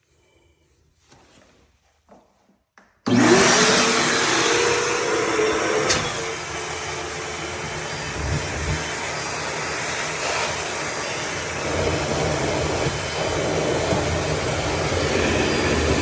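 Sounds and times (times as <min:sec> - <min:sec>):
vacuum motor whine: 0:03.1 - 0:16.0.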